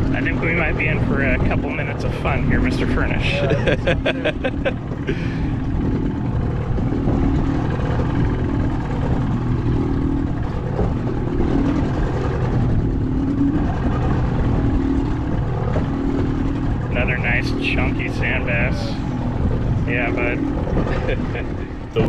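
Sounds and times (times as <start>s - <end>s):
outboard motor running: 0.0s - 22.0s
wind buffeting microphone: 0.0s - 22.0s.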